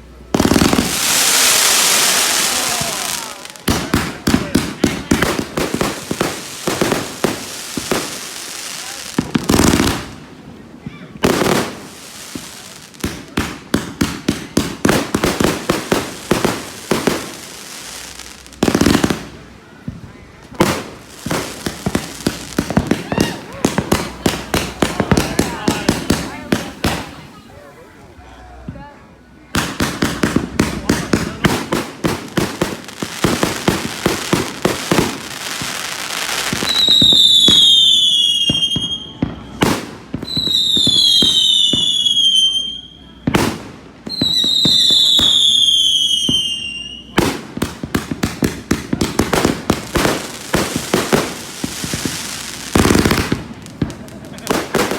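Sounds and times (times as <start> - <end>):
fireworks bangs: 0.0 - 27.7, 28.6 - 54.9.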